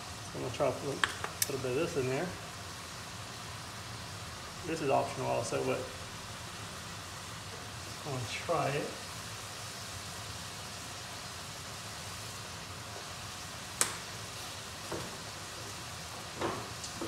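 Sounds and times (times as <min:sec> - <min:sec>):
sauce sizzling in a wok: 0:00.0 - 0:17.0.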